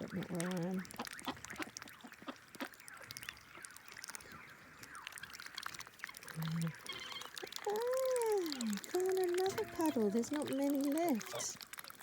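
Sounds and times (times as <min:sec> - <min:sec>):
soft bird calls: 0:00.0 - 0:10.4
pecking and dabbling clicks: 0:00.0 - 0:12.0.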